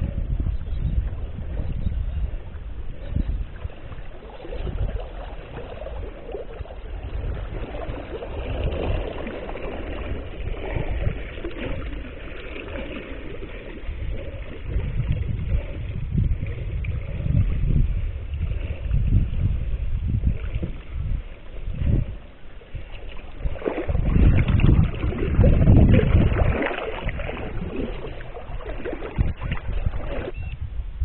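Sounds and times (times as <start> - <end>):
water trickling along kayak hull: 0.0 - 30.6
wind buffeting microphone: 0.0 - 31.0.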